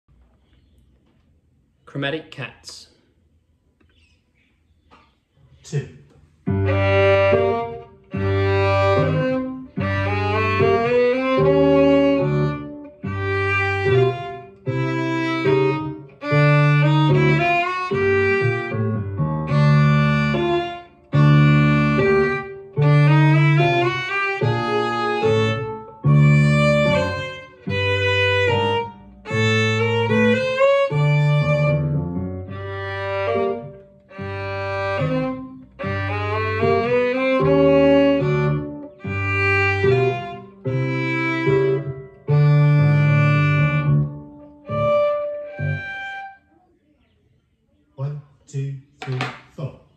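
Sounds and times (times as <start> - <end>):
lower accompaniment: 6.4 - 46.4
bowed violin exercise tune: 6.4 - 46.6.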